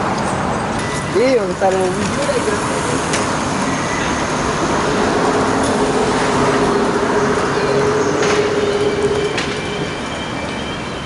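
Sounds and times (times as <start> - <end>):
large vehicle engine droning: 0.0 - 11.0.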